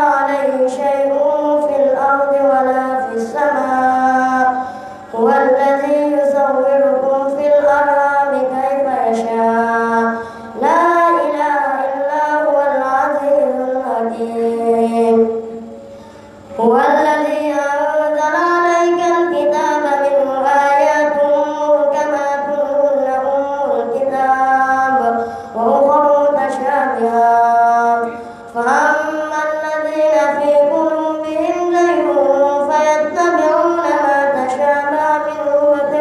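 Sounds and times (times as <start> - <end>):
boy chanting through microphone: 0.0 - 36.0.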